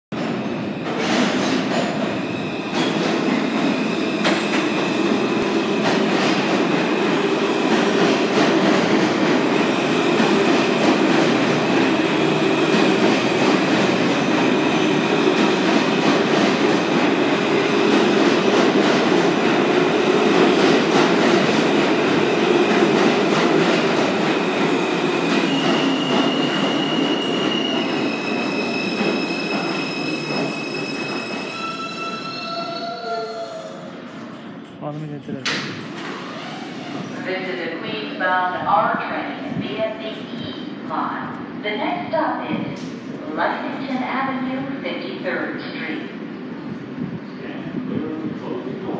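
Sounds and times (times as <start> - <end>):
subway train braking to a stop: 0.1 - 48.9.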